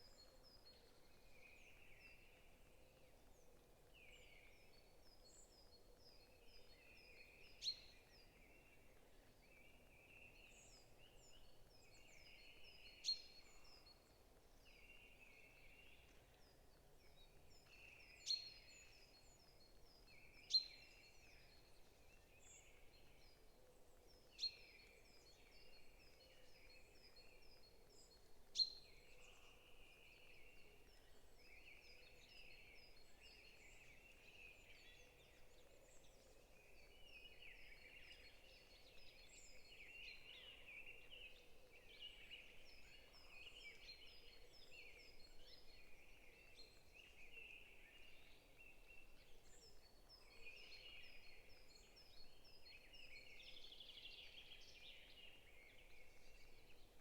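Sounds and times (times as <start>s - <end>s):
forest birds chirping: 0.0s - 57.0s.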